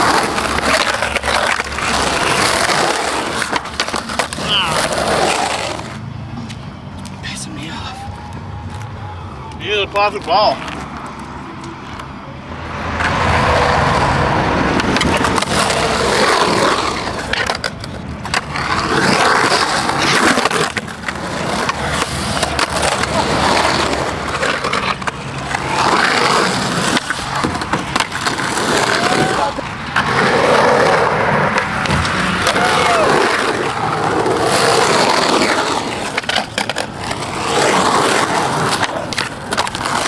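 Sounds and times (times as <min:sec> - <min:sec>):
skateboard clacking on concrete: 0:00.0 - 0:07.2, 0:14.7 - 0:40.0
skateboard wheels rolling on concrete: 0:00.0 - 0:40.0.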